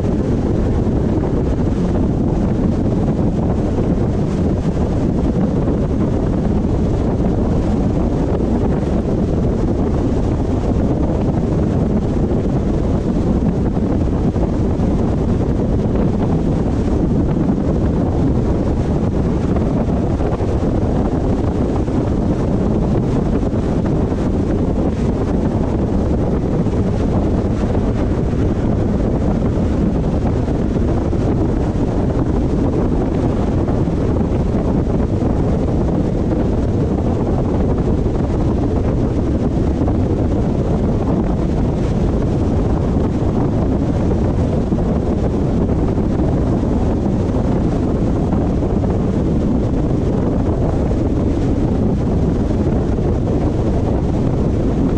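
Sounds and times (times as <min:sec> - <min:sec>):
car road and wind noise: 0:00.0 - 0:54.9.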